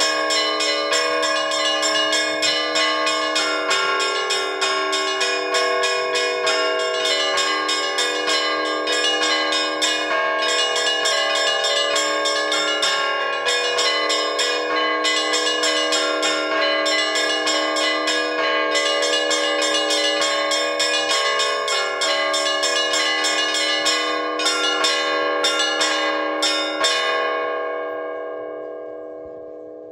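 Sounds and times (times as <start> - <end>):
fast peal of small bells: 0.0 - 29.9
hum of larger bells: 0.0 - 29.9.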